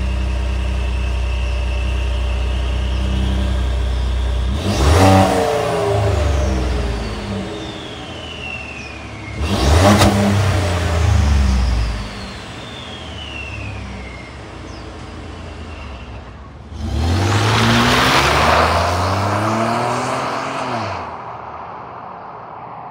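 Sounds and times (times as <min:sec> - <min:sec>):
truck engine revving: 0:00.0 - 0:21.3
truck accelerating away: 0:00.0 - 0:21.4.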